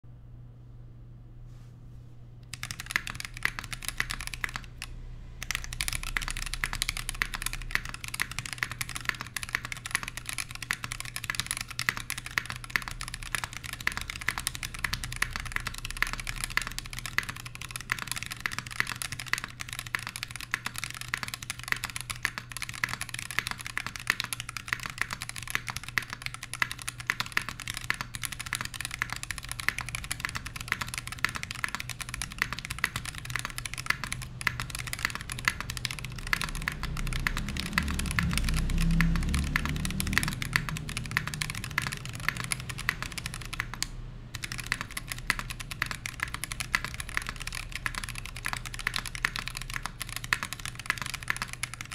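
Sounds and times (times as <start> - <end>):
fast typing on mechanical keyboard: 2.5 - 51.9.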